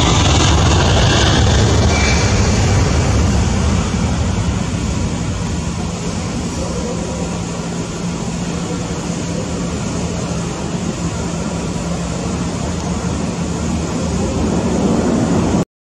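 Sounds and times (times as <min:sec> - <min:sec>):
jet engines at takeoff thrust: 0:00.0 - 0:15.6.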